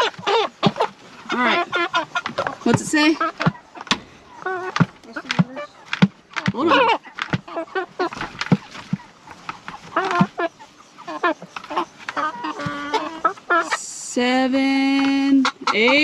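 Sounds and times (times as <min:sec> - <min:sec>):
chicken squawking: 0:00.0 - 0:13.9, 0:15.3 - 0:16.0
chicken clucking: 0:00.0 - 0:16.0.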